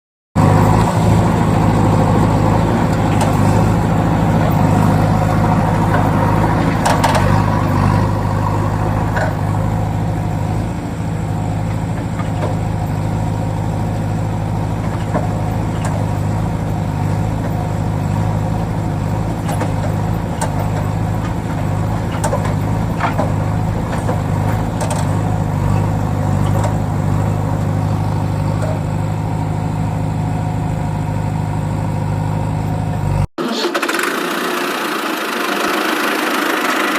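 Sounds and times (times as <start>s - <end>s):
vehicle engine running: 0.4s - 36.9s.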